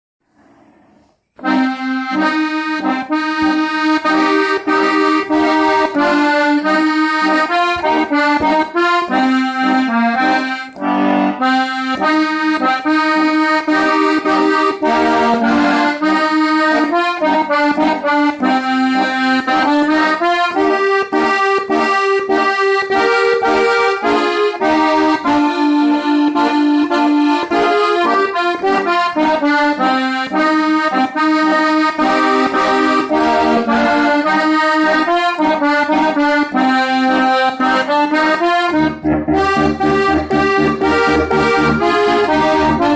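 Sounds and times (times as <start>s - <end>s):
accordion playing folk tune: 1.2s - 42.9s.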